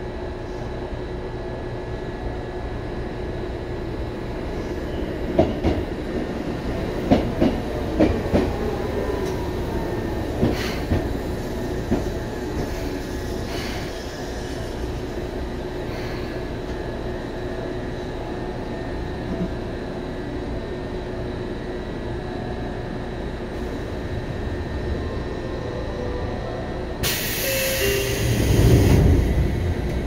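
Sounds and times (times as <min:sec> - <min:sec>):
train wheels and motors rumbling: 0:00.0 - 0:30.0.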